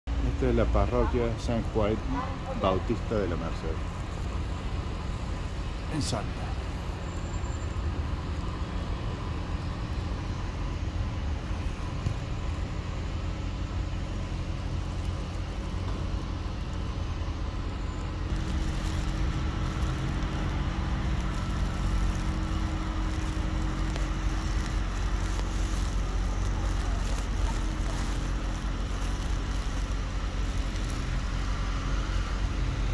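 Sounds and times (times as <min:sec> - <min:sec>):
road traffic rumble: 0:00.1 - 0:32.9
nearby vehicle engine running: 0:01.8 - 0:32.9.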